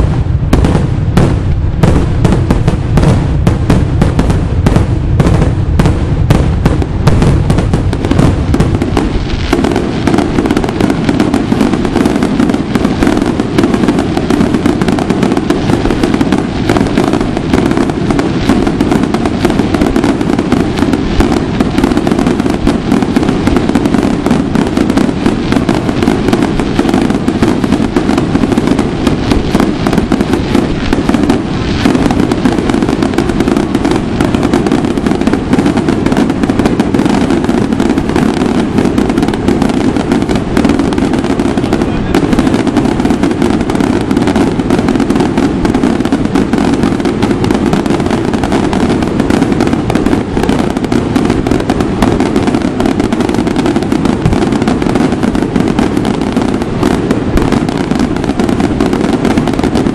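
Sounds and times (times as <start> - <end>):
fireworks crackling bangs: 0.0 - 59.9.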